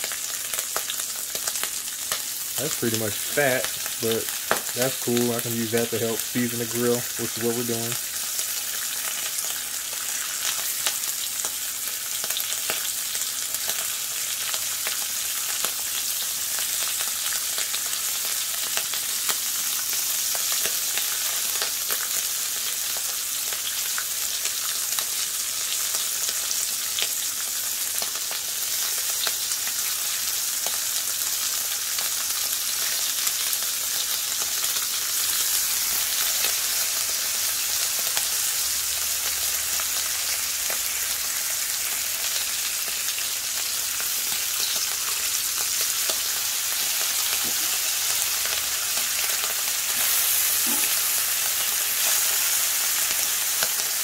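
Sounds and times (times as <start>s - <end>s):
bacon sizzling on griddle: 0.0s - 54.0s.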